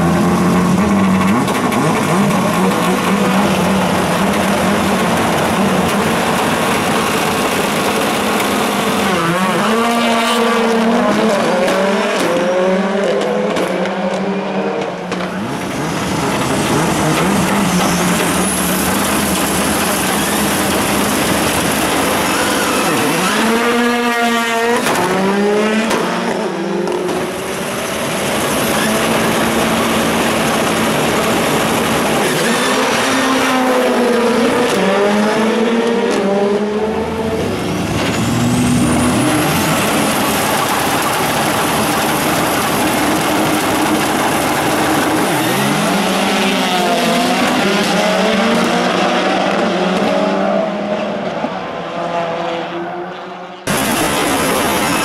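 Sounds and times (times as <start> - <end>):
race cars accelerating hard: 0.0 - 55.0.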